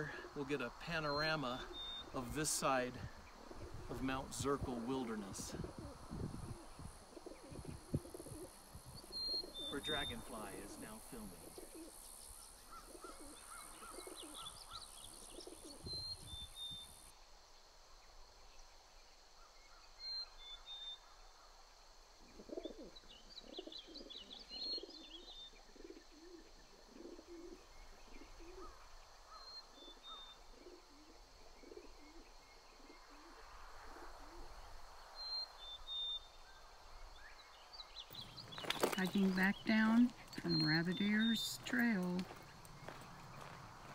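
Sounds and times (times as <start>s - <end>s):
lower pulsing bird calls: 0.0s - 17.1s, 18.0s - 21.5s, 22.1s - 43.9s.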